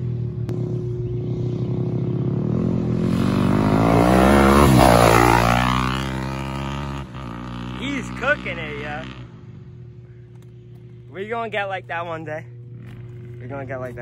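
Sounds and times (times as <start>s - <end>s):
dirt bike passing by: 0.0s - 14.0s.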